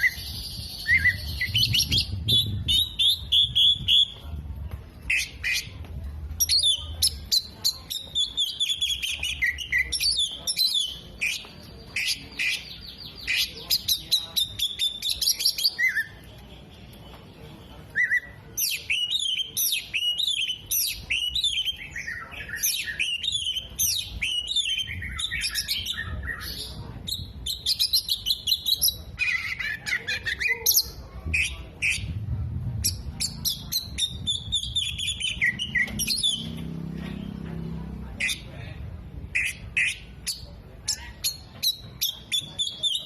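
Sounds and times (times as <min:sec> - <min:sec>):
bird singing varied song: 0:00.0 - 0:04.3, 0:05.1 - 0:37.4, 0:39.3 - 0:43.0.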